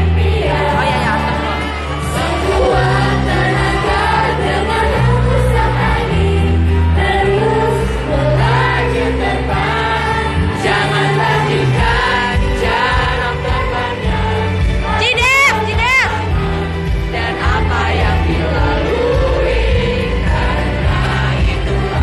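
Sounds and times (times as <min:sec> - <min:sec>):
pop backing track with bass: 0:00.0 - 0:22.0
women singing in unison: 0:00.0 - 0:22.0.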